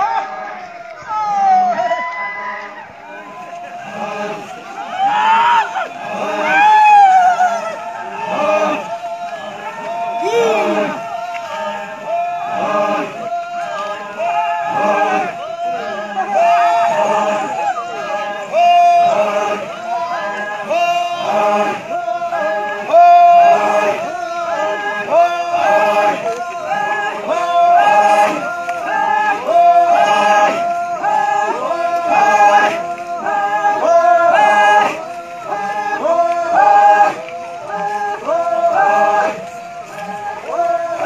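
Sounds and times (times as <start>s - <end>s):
men chanting in unison: 0.0s - 41.0s.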